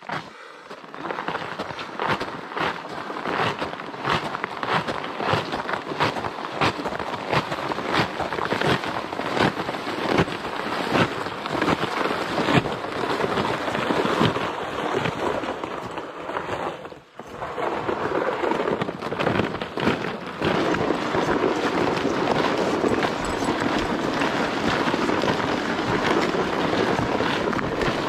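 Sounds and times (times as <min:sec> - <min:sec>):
footsteps crunching on icy snow: 0:00.0 - 0:28.0
freezing rain pattering on rain gear: 0:00.4 - 0:28.0.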